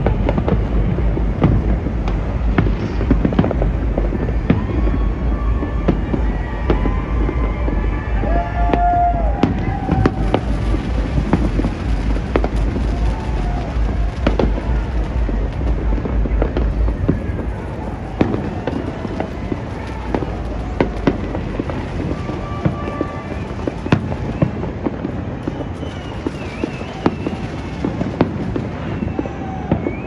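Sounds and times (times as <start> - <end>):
constant rumble: 0.0 - 30.0
fireworks bangs and crackling: 0.0 - 30.0.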